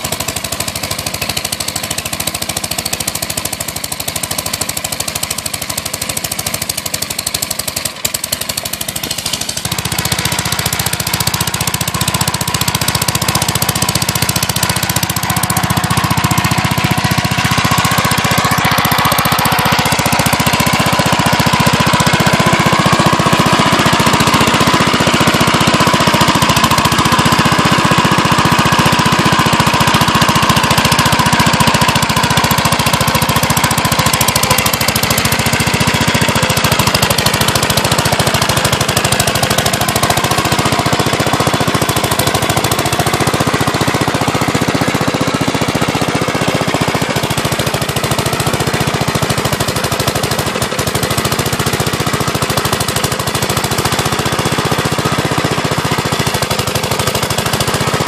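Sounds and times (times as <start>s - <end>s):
tractor engine running under load: 0.0s - 58.0s.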